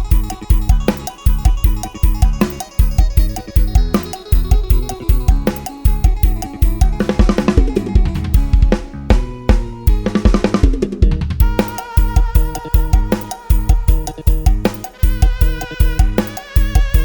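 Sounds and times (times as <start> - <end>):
dance music with drum kit: 0.0 - 17.0.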